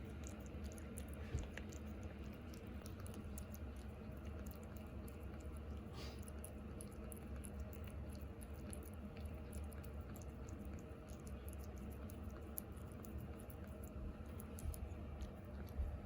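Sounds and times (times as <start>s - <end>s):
cat chewing and licking: 0.0s - 16.0s
steady low hum: 0.0s - 16.0s.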